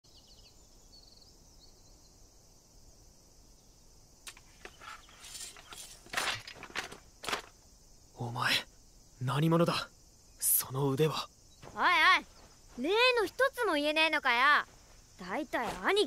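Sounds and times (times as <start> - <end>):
faint outdoor ambience: 0.0 - 16.0.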